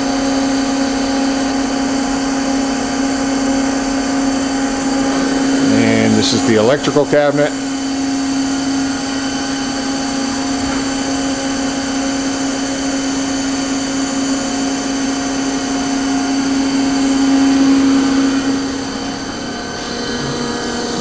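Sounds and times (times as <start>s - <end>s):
machine humming with fans whirring: 0.0s - 21.0s.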